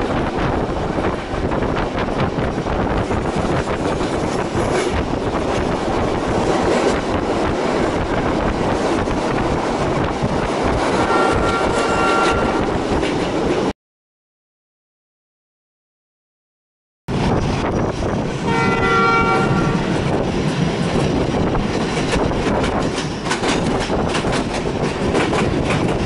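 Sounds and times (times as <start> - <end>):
train wheels rumbling on rails: 0.0 - 13.7, 17.1 - 26.0.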